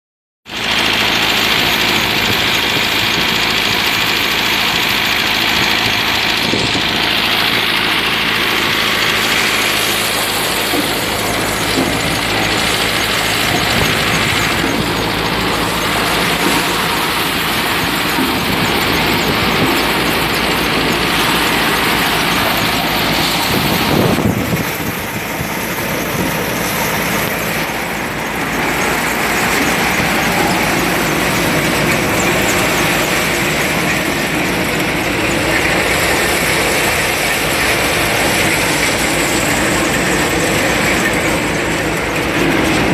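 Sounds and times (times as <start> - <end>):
threshing machine running: 0.5 - 42.9.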